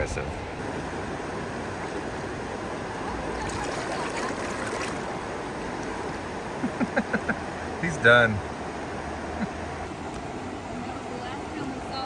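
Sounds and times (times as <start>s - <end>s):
river water rushing over rapids: 0.3s - 12.0s.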